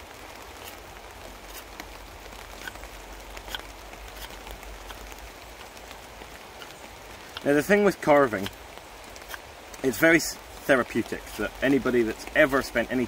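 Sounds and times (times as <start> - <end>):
rain on a tarp: 0.0 - 13.0.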